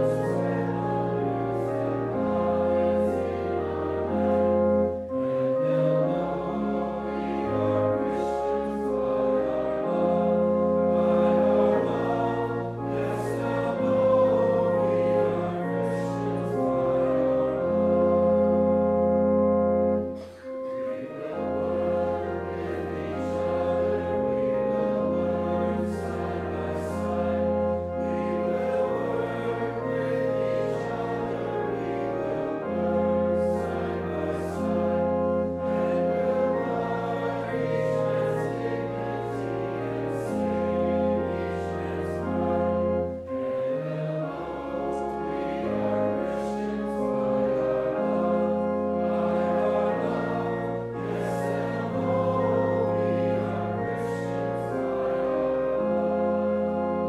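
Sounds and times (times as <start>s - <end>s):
congregation singing a hymn: 0.0s - 57.0s
instrumental accompaniment: 0.0s - 57.0s.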